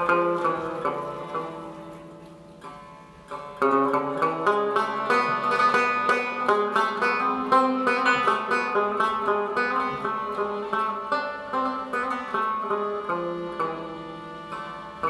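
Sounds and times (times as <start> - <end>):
rubab plucked melody: 0.0 - 15.0.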